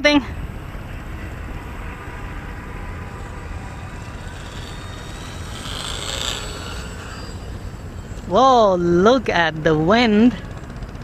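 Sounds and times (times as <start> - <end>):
model airplane motor whining: 0.0 - 11.0.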